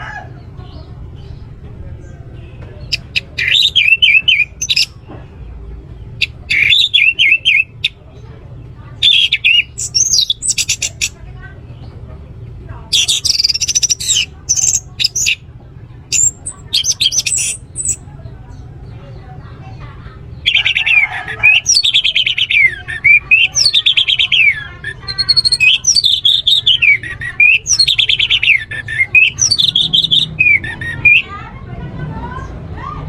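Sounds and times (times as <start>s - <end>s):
thrush singing: 0.0s - 33.0s.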